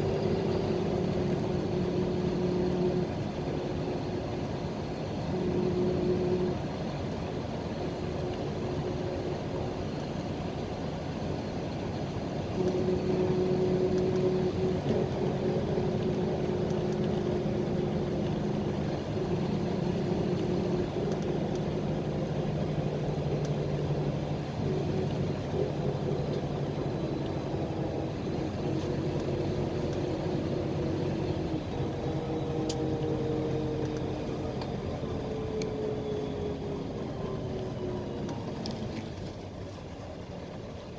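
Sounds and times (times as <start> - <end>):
bus engine drone: 0.0 - 40.9
road noise: 0.0 - 40.9.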